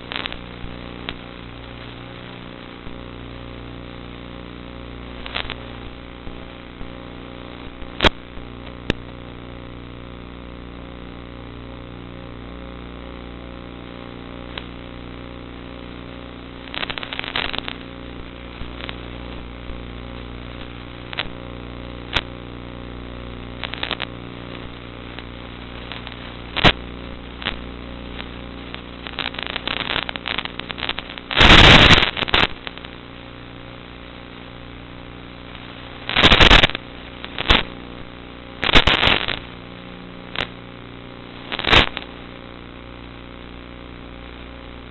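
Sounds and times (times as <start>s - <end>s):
crackles and clicks: 0.0s - 44.9s.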